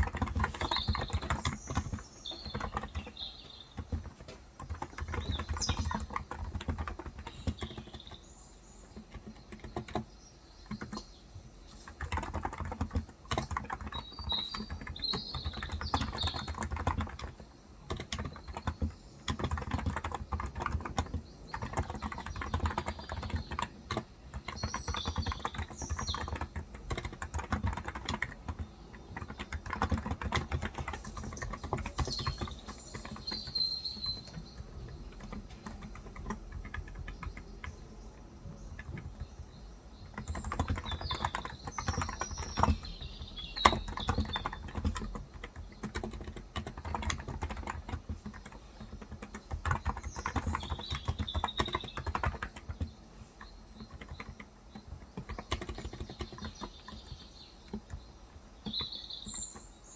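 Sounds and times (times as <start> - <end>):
keyboard typing: 0.0 - 59.9.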